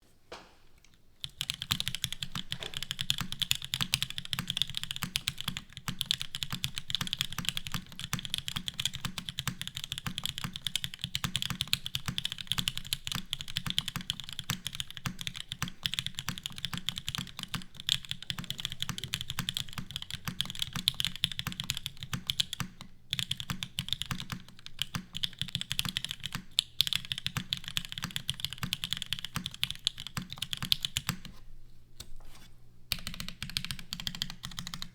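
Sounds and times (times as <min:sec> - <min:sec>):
mechanical keyboard typing: 0:01.2 - 0:31.3, 0:32.9 - 0:34.9.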